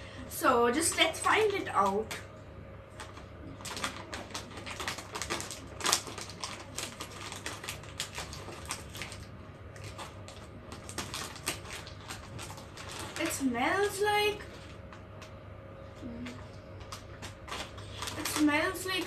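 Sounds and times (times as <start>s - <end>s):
plastic chip bag crinkling: 0.8s - 2.2s, 2.9s - 15.3s, 16.1s - 19.0s.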